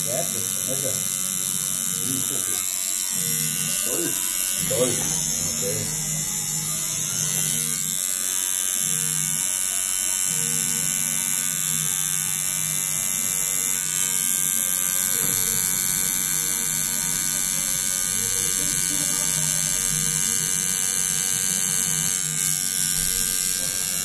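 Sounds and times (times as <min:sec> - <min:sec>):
tattoo machine buzzing: 0:00.0 - 0:24.0.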